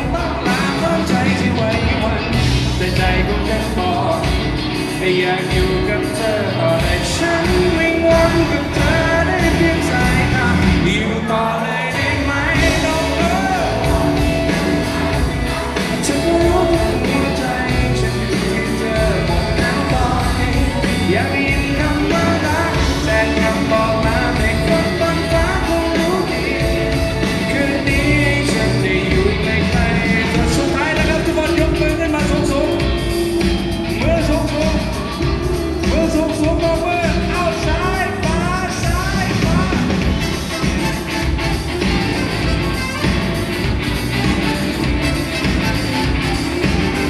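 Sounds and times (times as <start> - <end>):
live rock band playing: 0.0 - 47.0
person singing: 0.0 - 47.0.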